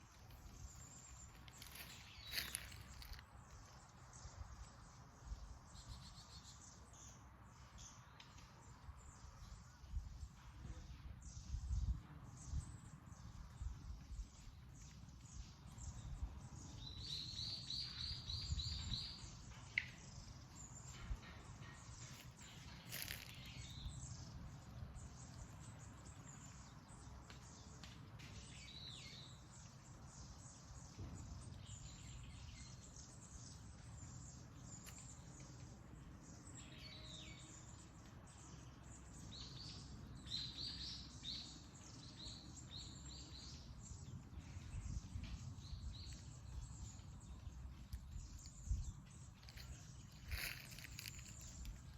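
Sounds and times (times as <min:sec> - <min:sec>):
wild birds chirping: 0:00.0 - 0:51.9.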